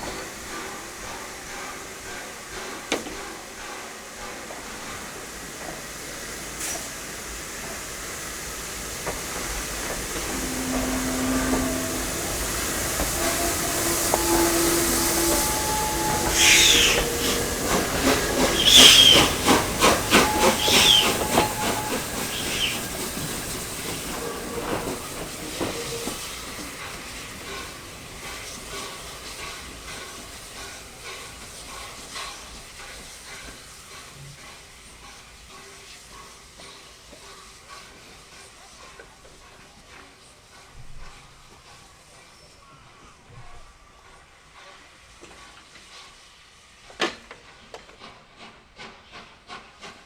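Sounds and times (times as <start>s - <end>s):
train wheels clicking: 0.0s - 42.0s, 44.2s - 50.0s
steam locomotive hissing: 0.0s - 50.0s.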